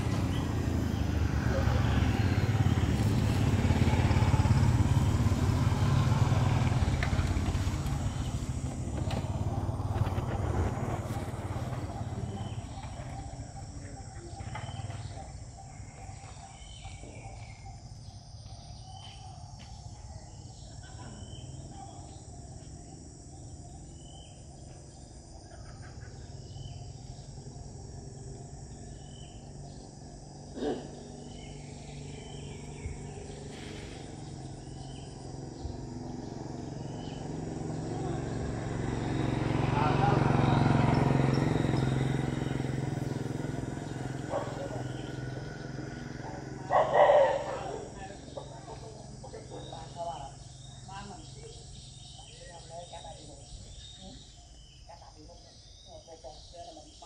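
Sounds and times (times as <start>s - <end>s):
low vehicle rumble: 0.0s - 19.0s, 19.8s - 54.4s.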